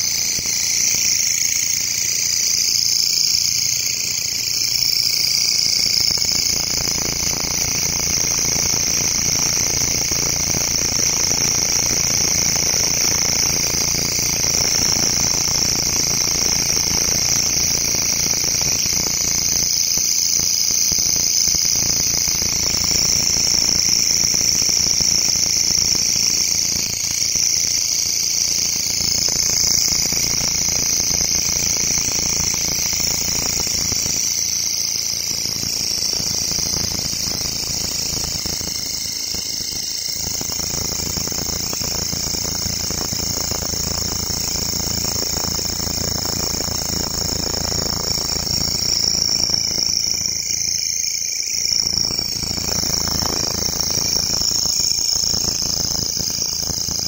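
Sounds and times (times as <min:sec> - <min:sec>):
katydid high-pitched buzz: 0:00.0 - 0:57.0.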